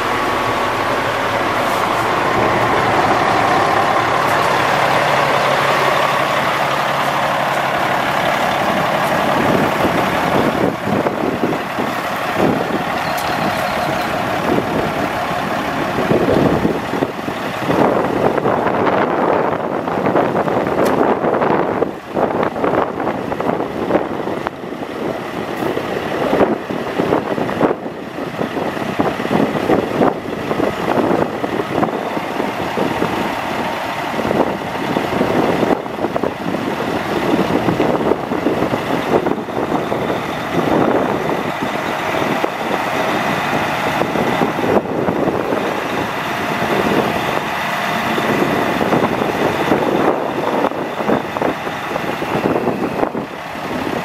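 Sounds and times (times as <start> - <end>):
diesel truck engine idling: 0.0 - 54.0
wind gusting on microphone: 0.0 - 54.0.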